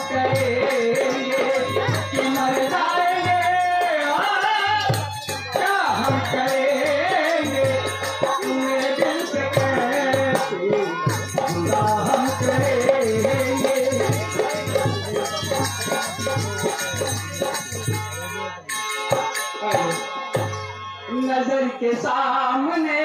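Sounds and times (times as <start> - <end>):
shaken jingling percussion: 0.0 - 20.8
steady drumbeat: 0.0 - 20.8
harmonium melody: 0.0 - 23.0.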